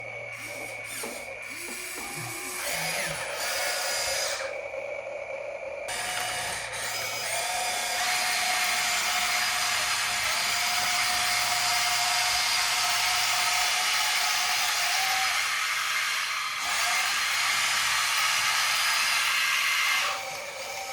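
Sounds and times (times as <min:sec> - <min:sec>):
toy excavator motors whining: 0:00.0 - 0:04.8, 0:05.9 - 0:20.9.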